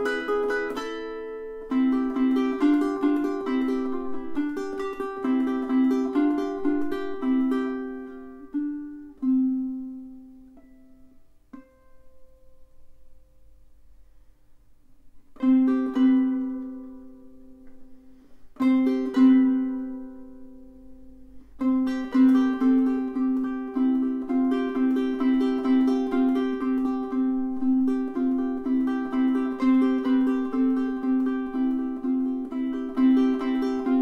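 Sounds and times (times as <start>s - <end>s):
ukulele chords ringing: 0.0s - 13.8s, 15.3s - 34.0s
ukulele plucked notes: 0.0s - 13.8s, 15.2s - 34.0s.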